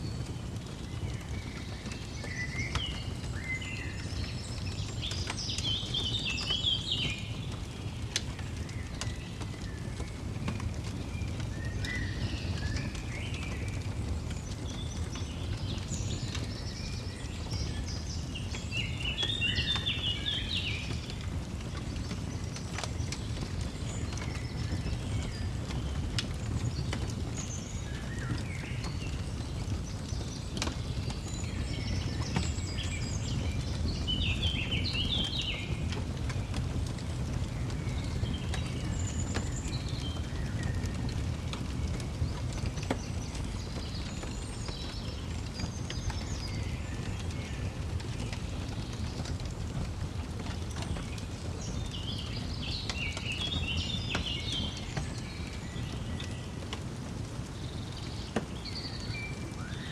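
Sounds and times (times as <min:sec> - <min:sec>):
fire crackling pops: 0:00.1 - 0:59.9
birds chirping: 0:08.6 - 0:59.9.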